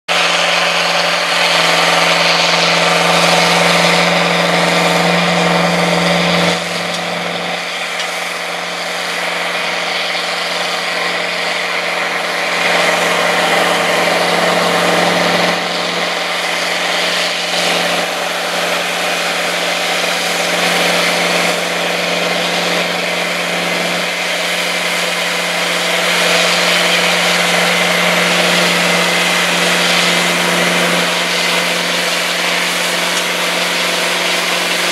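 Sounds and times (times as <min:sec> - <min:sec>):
tractor diesel engines droning: 0:00.1 - 0:34.9.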